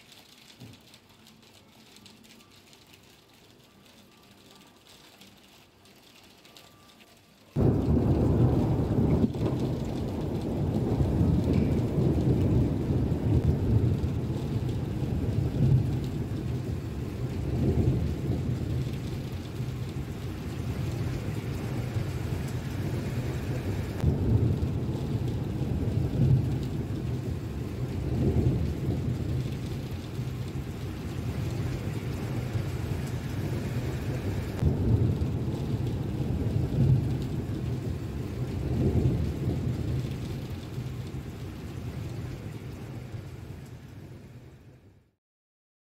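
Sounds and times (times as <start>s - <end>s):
heavy rain: 0.0s - 45.1s
low rolling thunder: 7.6s - 44.8s.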